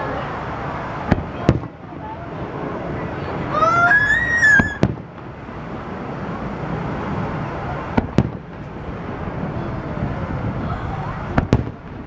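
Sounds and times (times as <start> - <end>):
background noise: 0.0 - 12.0
fireworks bursting: 0.9 - 2.0, 2.6 - 12.0.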